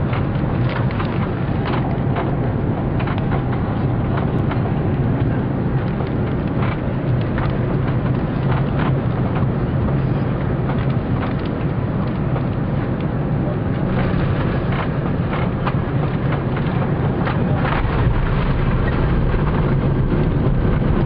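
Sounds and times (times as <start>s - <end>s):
airliner cabin engine hum: 0.0s - 21.0s
light rattles and clicks: 0.0s - 21.0s.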